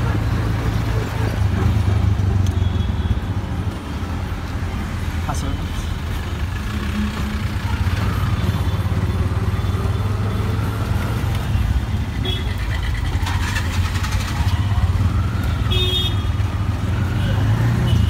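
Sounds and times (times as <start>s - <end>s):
auto-rickshaw engine droning: 0.0s - 18.0s
street traffic noise: 0.0s - 18.0s.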